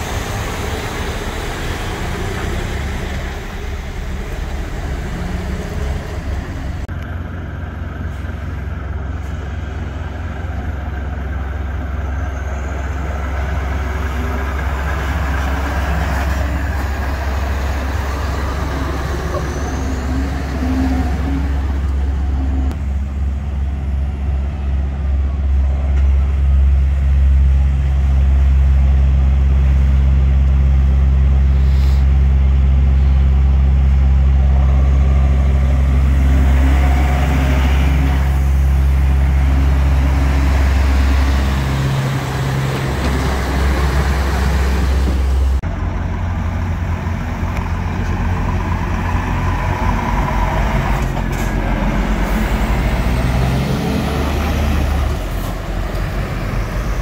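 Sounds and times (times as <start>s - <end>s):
truck diesel engines rumbling: 0.0s - 57.0s.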